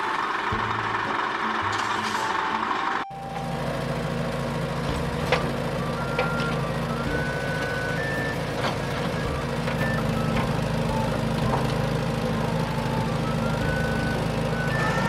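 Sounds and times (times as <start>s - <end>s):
toy crane engine running: 0.0s - 15.0s.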